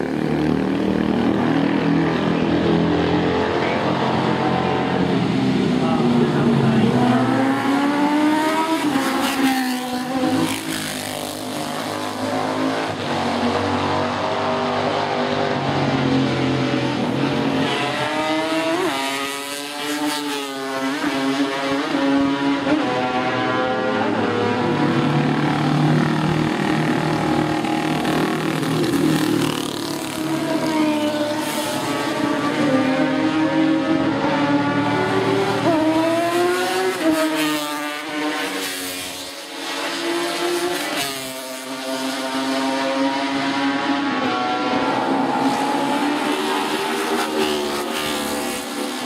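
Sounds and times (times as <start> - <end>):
racing motorcycles passing: 0.0 - 49.0.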